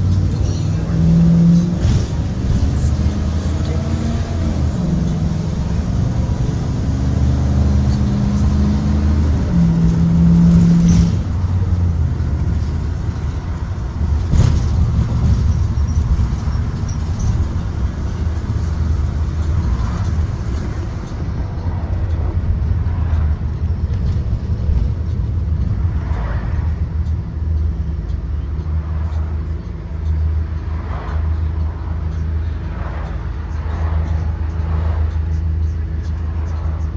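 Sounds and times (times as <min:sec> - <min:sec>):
bus engine drone: 0:00.0 - 0:36.9
road rumble: 0:00.0 - 0:36.9.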